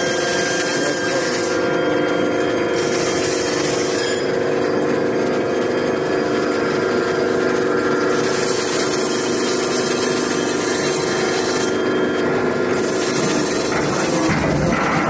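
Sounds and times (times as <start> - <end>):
machine motor hum: 0.0 - 15.0.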